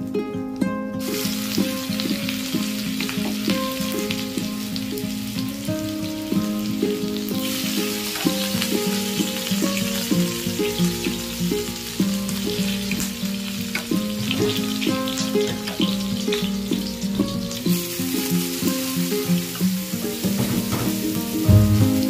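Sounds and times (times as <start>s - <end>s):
background music with plucked melody: 0.0s - 22.0s
food sizzling in hot oil: 1.0s - 22.0s.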